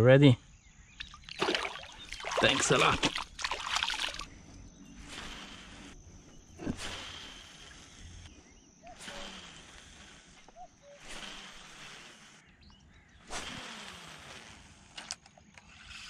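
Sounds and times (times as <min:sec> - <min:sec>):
short chirping calls: 0:00.4 - 0:13.7
high insect buzz: 0:00.8 - 0:16.0.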